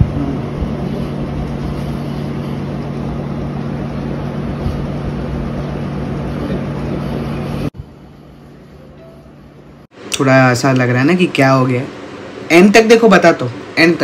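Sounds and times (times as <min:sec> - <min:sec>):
machine hum with rushing noise: 0:00.0 - 0:14.0.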